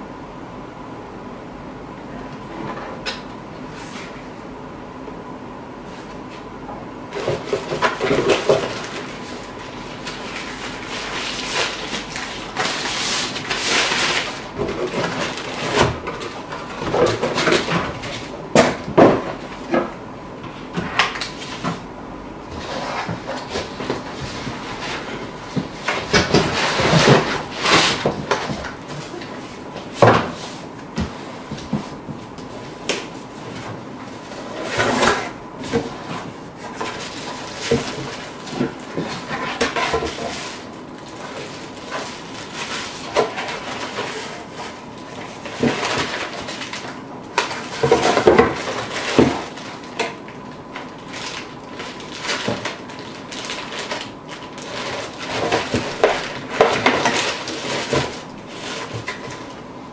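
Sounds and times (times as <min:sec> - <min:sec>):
packaging rustling and knocking: 0:07.1 - 0:20.0, 0:20.6 - 0:59.6.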